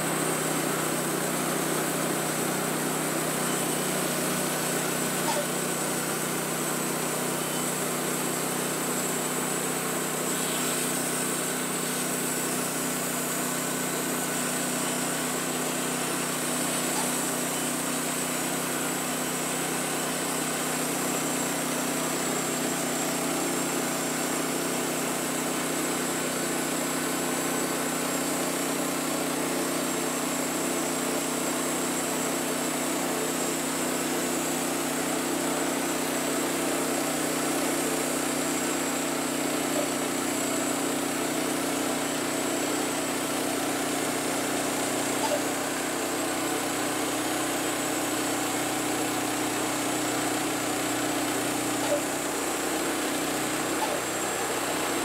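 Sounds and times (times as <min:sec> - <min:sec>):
sawmill engine cutting log: 0:00.0 - 0:55.0.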